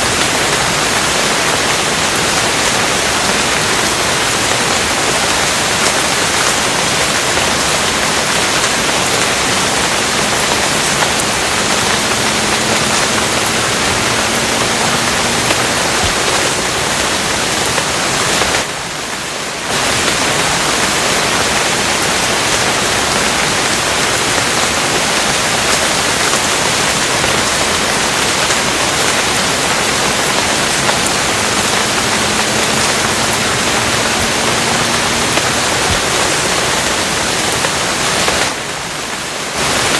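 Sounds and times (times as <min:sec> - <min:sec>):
dense rain hiss: 0:00.0 - 0:39.9.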